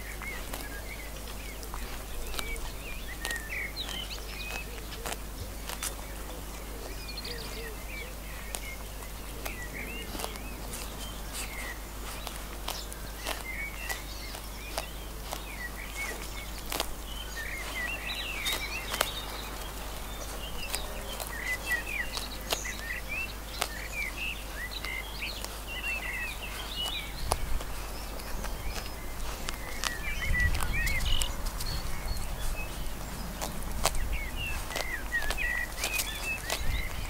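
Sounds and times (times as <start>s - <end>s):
lamb tearing and chewing grass: 0.0s - 37.0s
small birds chirping: 0.0s - 37.0s.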